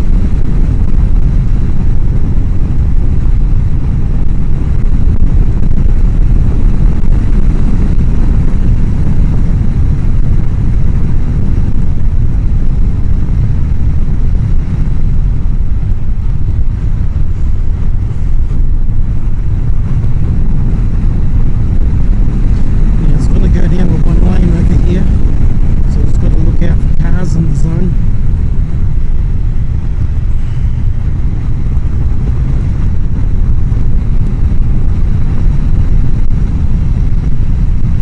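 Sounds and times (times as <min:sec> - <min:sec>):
wind rushing on microphone: 0:00.0 - 0:38.0.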